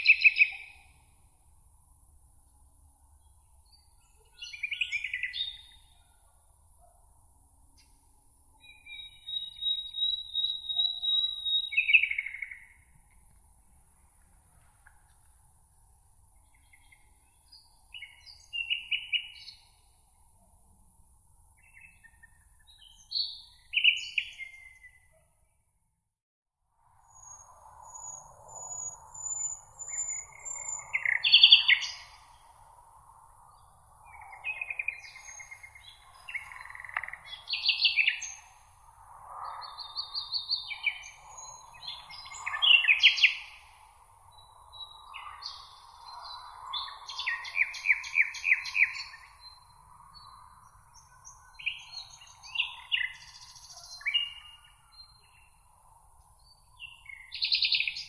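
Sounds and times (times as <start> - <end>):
songbirds singing: 0.0 - 1.2, 3.1 - 7.0, 7.7 - 13.3, 16.3 - 20.0, 21.5 - 25.2, 27.1 - 58.0.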